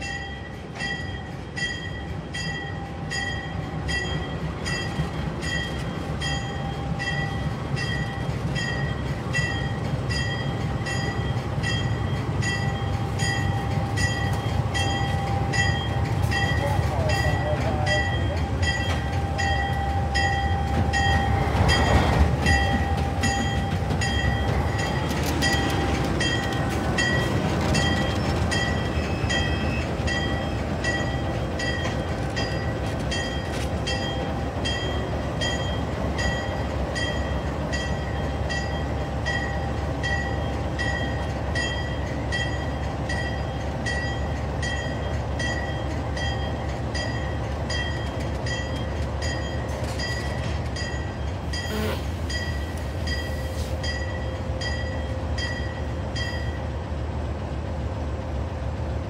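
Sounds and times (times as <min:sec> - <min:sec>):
locomotive bell ringing: 0:00.0 - 0:56.8
diesel locomotive engine running: 0:00.0 - 0:59.0.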